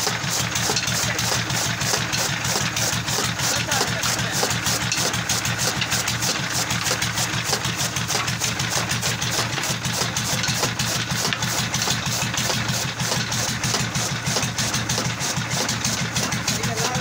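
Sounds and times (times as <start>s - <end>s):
diesel engine thumping: 0.0s - 17.0s.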